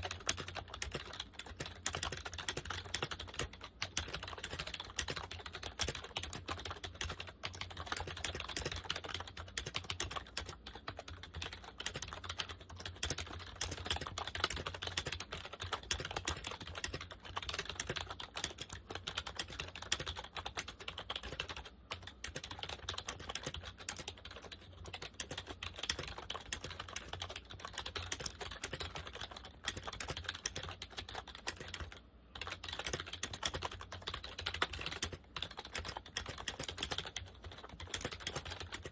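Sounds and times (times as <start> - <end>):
keyboard typing clatter: 0.0 - 38.9.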